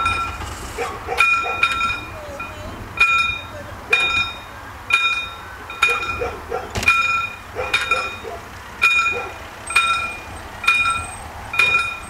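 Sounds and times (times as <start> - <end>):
level crossing warning bell ringing: 0.0 - 12.0.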